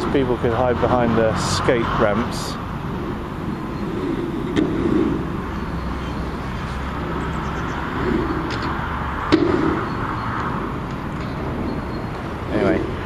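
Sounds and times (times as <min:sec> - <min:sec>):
distant city traffic: 0:00.0 - 0:13.0.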